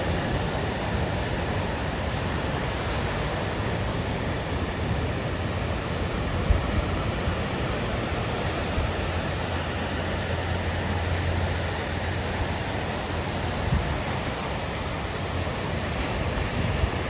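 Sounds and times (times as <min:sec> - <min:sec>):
ocean surf rushing: 0:00.0 - 0:17.0
wind noise on microphone: 0:00.0 - 0:17.0.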